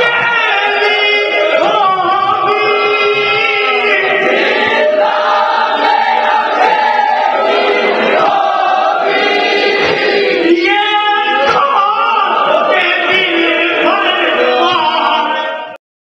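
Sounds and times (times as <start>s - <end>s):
lead reciter on microphone: 0.0s - 15.8s
men chanting a lament: 0.0s - 15.8s.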